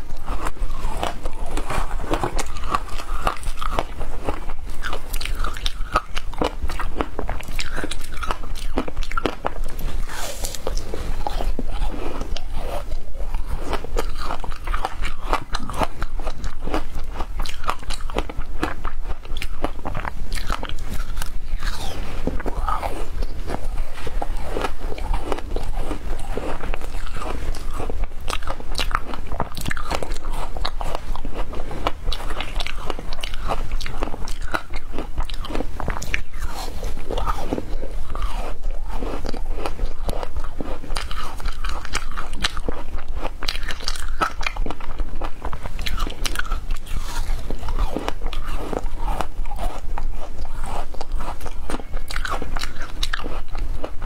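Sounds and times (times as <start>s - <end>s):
crunching ice while chewing: 0.0s - 54.0s.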